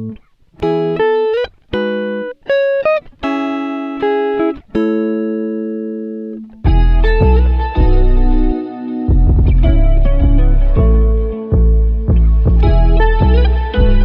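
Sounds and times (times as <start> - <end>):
slow plucked string melody: 0.0 - 14.0.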